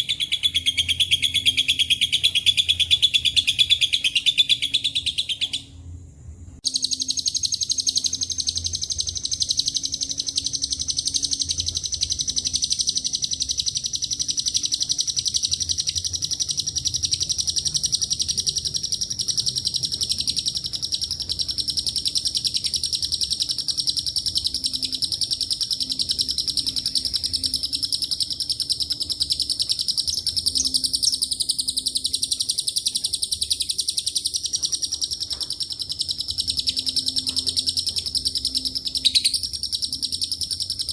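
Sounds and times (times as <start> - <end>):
lovebird chattering trill: 0.0 - 5.7, 6.6 - 40.9.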